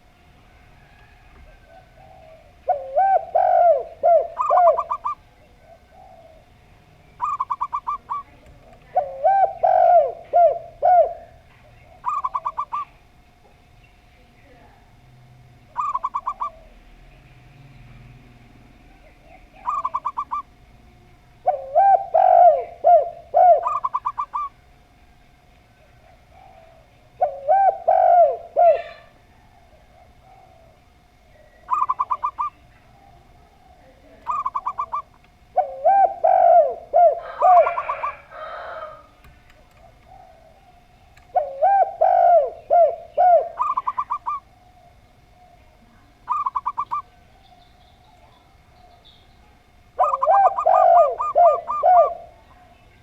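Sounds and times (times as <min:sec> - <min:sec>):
doves cooing: 0:00.0 - 0:13.7, 0:14.4 - 0:53.0
doves trilling: 0:00.0 - 0:53.0
faint steady hum: 0:00.0 - 0:53.0.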